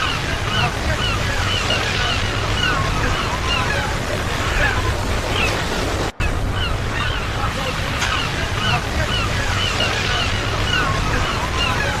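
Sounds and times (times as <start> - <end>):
ocean surf washing: 0.0 - 12.0.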